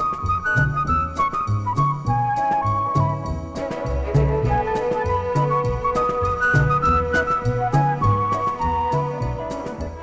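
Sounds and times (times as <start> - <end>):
bass line: 0.0 - 10.0
instrumental melody of held notes: 0.0 - 10.0
light regular percussion: 0.0 - 10.0.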